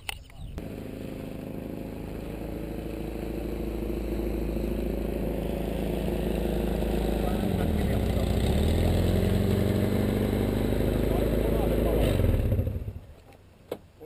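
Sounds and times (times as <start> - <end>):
engine running: 0.6 - 13.1.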